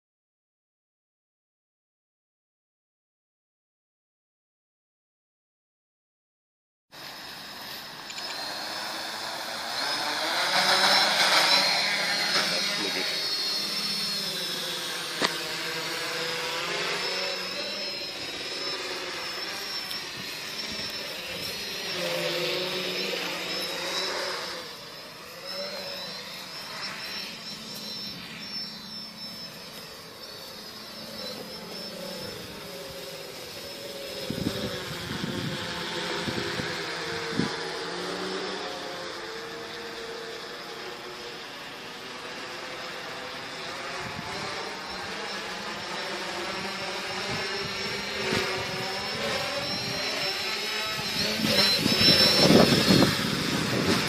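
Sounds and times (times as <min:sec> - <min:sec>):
drone propellers whining: 0:07.0 - 0:54.0.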